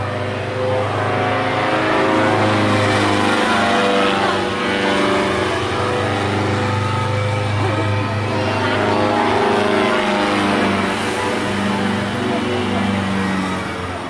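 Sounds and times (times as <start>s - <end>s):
paramotor engine droning: 0.0s - 14.0s.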